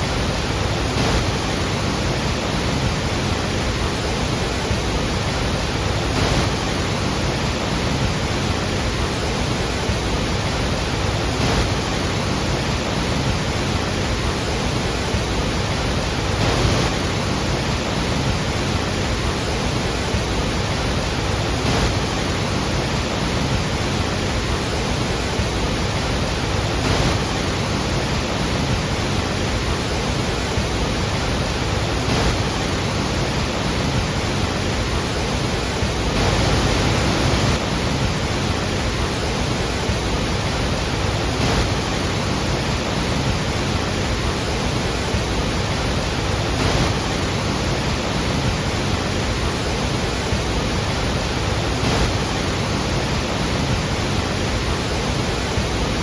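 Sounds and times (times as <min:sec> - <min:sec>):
large waterfall roaring: 0:00.0 - 0:56.0.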